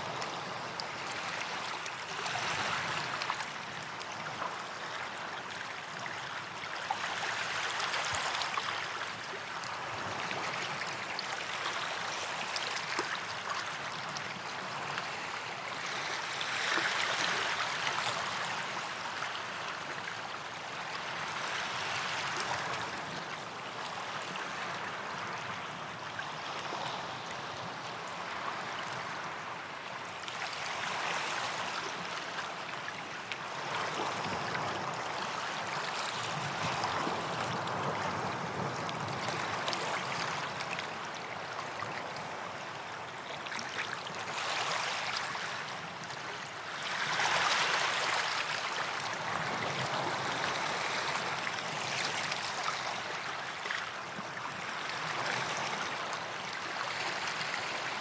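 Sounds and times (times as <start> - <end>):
small waves washing on sand: 0.0 - 58.0.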